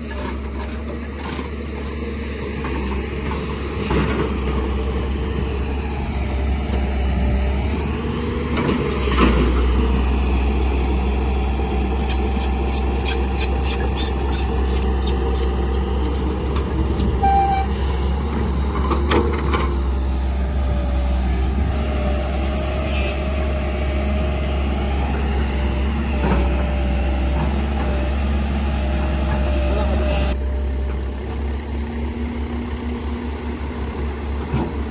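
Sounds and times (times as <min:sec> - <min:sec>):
diesel machinery running: 0:00.0 - 0:34.9.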